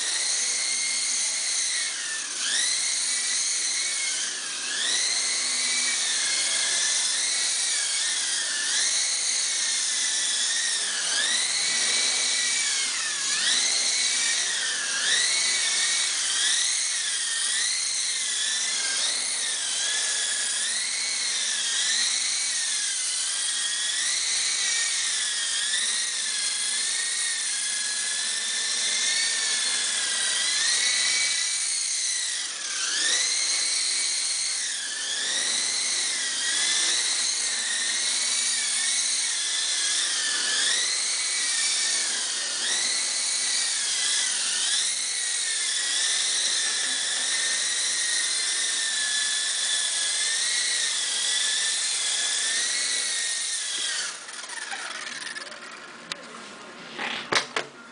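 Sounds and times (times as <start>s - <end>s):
rc helicopter motor whine: 0.0s - 57.9s.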